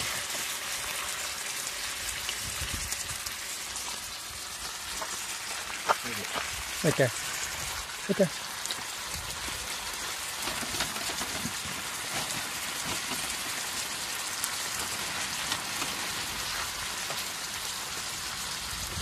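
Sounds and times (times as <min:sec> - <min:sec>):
meat sizzling in a frying pan: 0:00.0 - 0:19.0.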